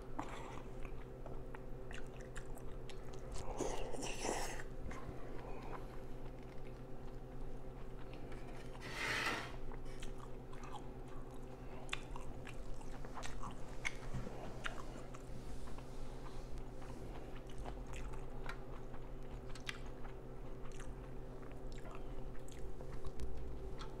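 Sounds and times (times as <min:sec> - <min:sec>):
steady low hum: 0:00.0 - 0:24.0
chewing with wet clicks: 0:00.1 - 0:08.4, 0:09.7 - 0:24.0.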